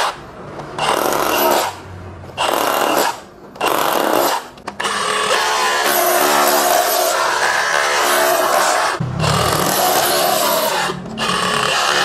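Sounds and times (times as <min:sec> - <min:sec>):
rotary hammer chiselling concrete: 0:00.0 - 0:01.8, 0:02.4 - 0:12.0.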